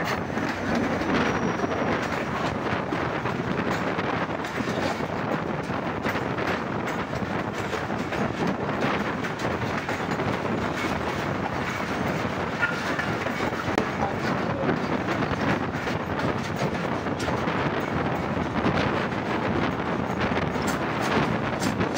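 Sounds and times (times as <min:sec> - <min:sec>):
train coaches rumbling by: 0:00.0 - 0:21.9
wheels clattering over rail joints: 0:00.0 - 0:21.9.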